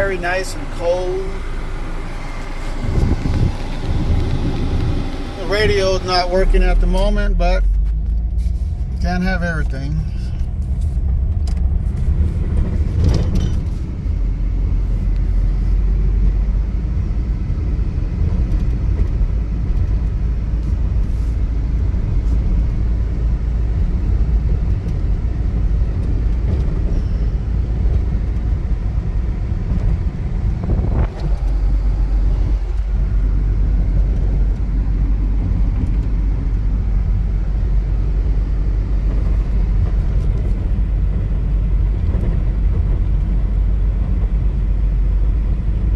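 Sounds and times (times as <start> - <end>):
pickup engine and road rumble: 0.0 - 45.9.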